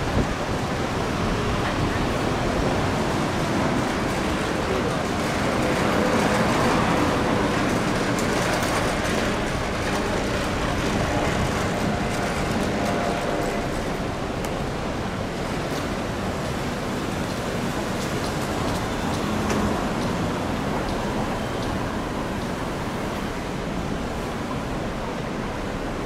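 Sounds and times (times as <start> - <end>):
traffic rushing: 0.0 - 26.0.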